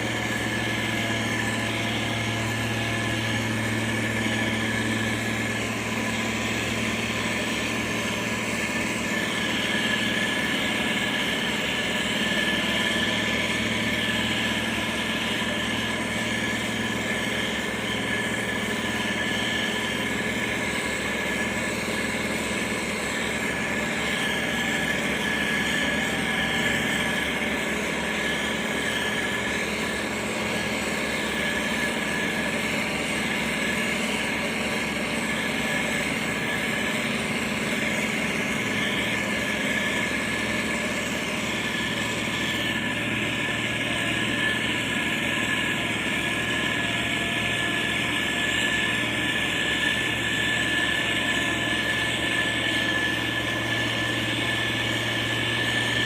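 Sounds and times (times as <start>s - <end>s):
diesel engine running: 0.0s - 56.0s
high whine: 0.0s - 56.0s.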